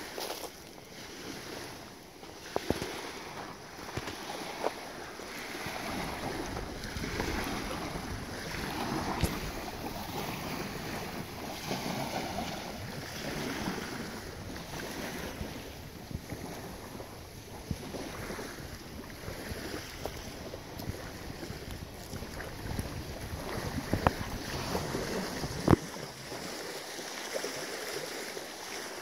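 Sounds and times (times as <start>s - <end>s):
rushing wind: 2.7s - 26.7s.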